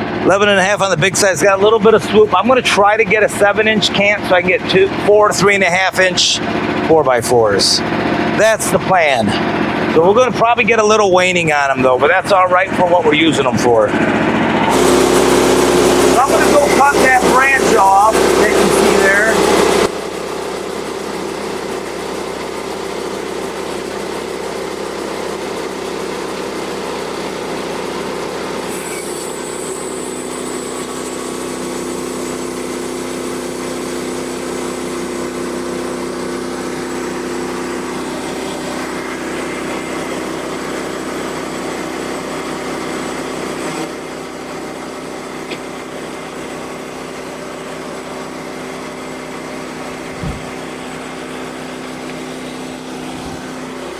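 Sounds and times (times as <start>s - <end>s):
small engine idling: 0.0s - 53.9s.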